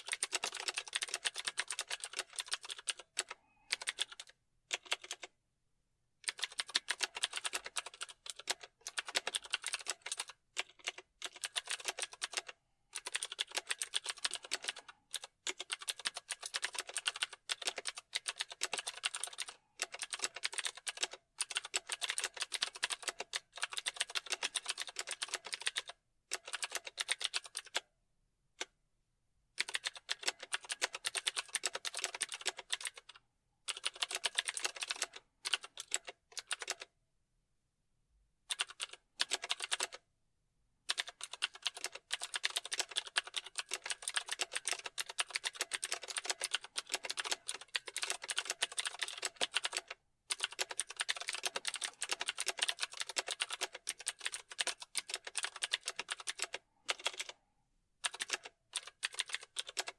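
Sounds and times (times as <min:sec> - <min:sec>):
typing on keyboard: 0:00.0 - 0:05.3, 0:06.2 - 0:27.9, 0:29.6 - 0:36.9, 0:38.5 - 0:40.0, 0:40.9 - 0:57.4, 0:58.0 - 0:59.9.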